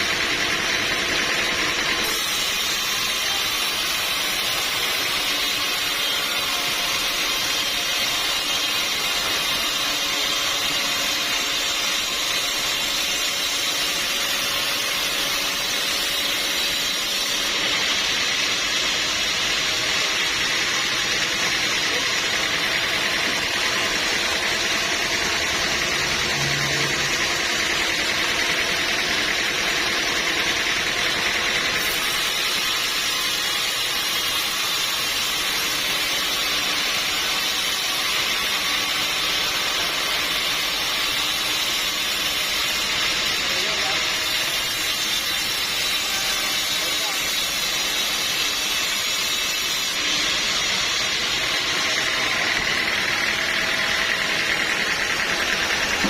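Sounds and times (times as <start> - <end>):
sawmill hiss and drone: 0.0 - 56.0.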